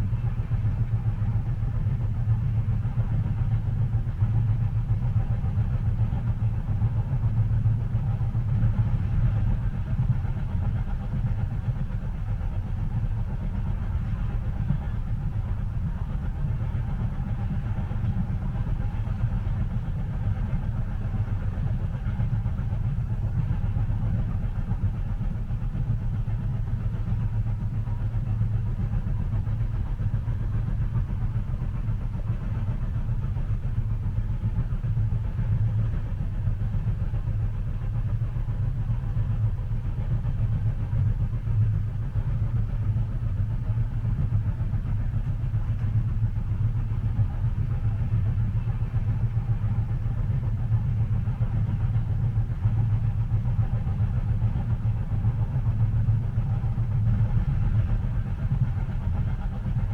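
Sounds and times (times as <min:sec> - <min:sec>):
train carriage rumble: 0:00.0 - 0:59.9.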